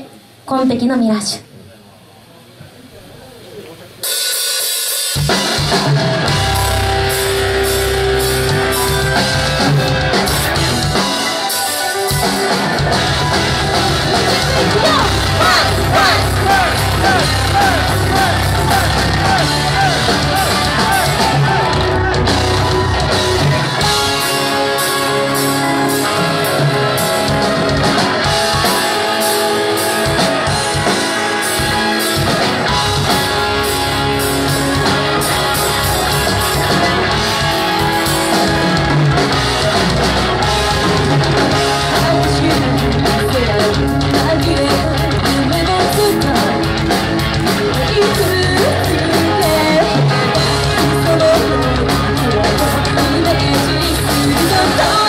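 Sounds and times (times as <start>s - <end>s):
live rock band playing: 4.0s - 55.0s.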